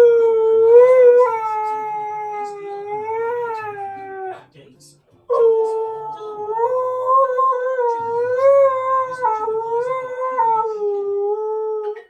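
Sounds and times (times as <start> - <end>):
dog humming: 0.0 - 4.4, 5.3 - 12.0.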